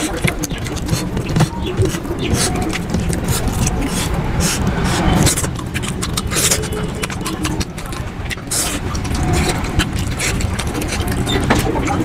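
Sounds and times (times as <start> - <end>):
steady low rumble: 0.0 - 12.0
wet chewing and lip smacking: 0.0 - 12.0.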